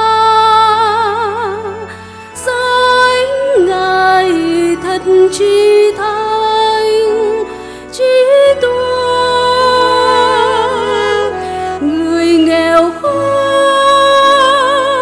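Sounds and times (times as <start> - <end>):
low sustained accompaniment chords: 0.0 - 15.0
woman singing a hymn: 0.0 - 15.0.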